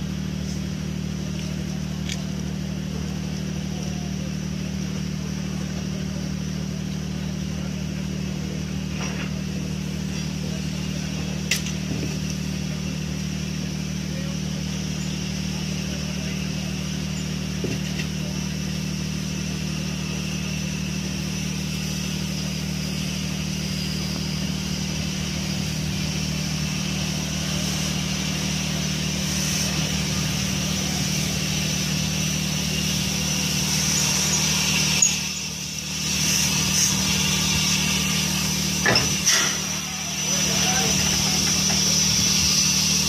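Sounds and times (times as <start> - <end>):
diesel engine idling: 0.0 - 43.0
steam hissing: 7.4 - 43.0.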